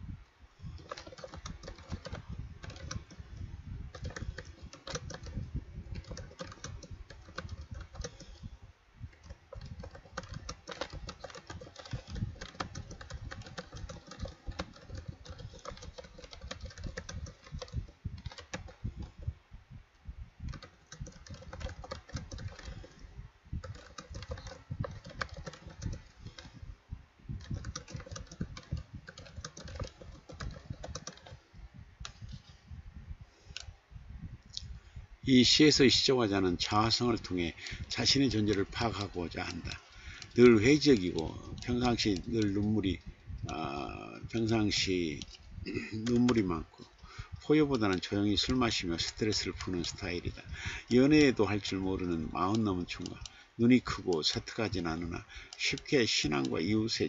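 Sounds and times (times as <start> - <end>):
typing on a computer keyboard: 0.7 - 8.4, 9.1 - 19.2, 20.5 - 23.0, 23.6 - 26.6, 27.4 - 31.4, 36.6 - 57.0.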